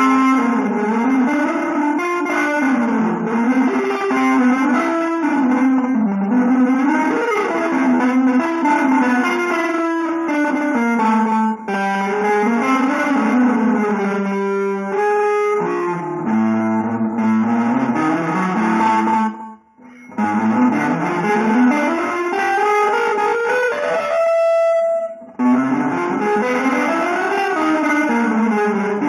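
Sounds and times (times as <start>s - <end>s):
instrumental guitar music: 0.0s - 29.0s.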